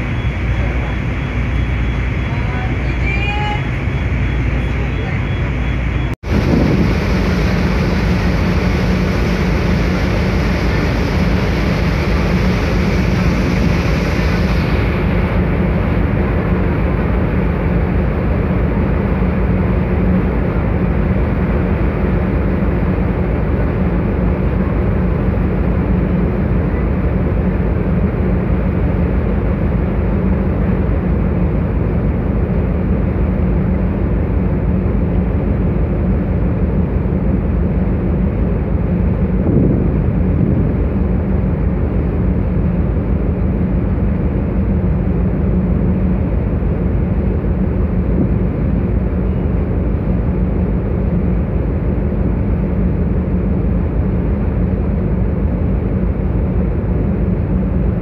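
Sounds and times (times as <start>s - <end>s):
ferry engines droning: 0.0s - 58.0s
wake churning along hull: 0.0s - 58.0s.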